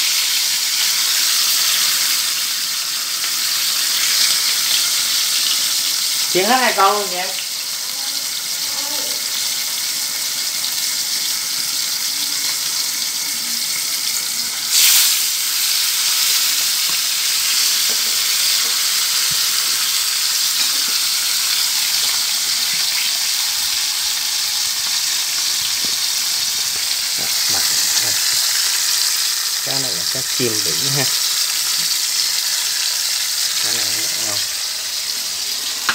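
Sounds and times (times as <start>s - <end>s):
fish sizzling in hot oil: 0.0s - 35.9s.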